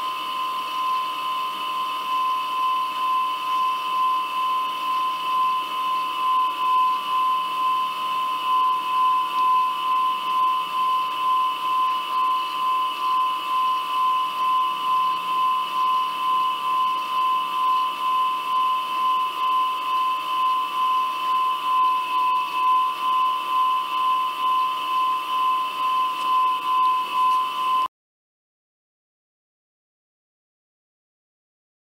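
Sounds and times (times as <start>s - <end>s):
high-pitched whine: 0.0s - 27.9s.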